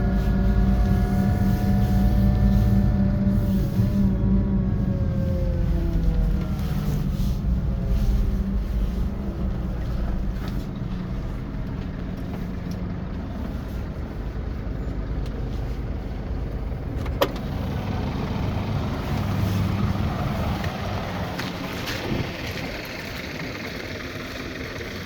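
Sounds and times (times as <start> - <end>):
bus diesel engine running: 0.0 - 25.0
road noise: 0.0 - 25.0.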